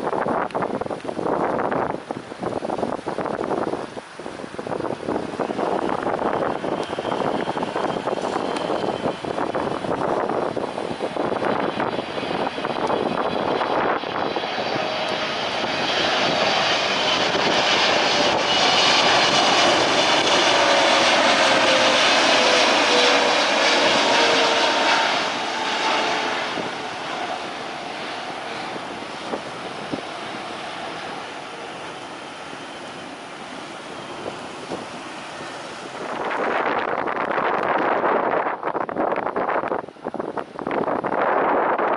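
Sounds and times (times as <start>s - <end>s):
jet airliner passing by: 0.0s - 41.9s.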